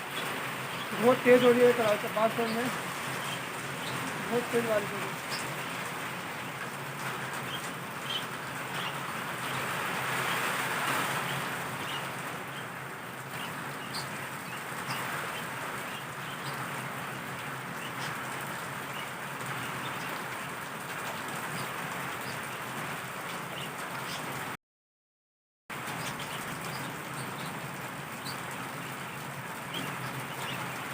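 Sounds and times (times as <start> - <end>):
heavy rain falling: 0.0 - 24.6, 25.7 - 30.9.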